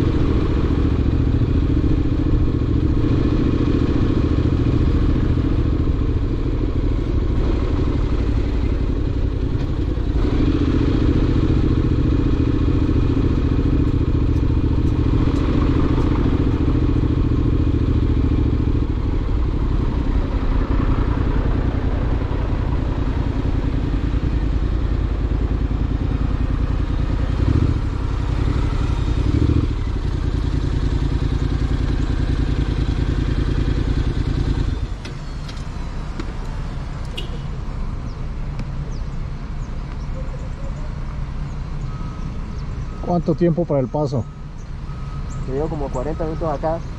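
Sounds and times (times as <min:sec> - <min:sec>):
motorcycle engine running: 0:00.0 - 0:43.4.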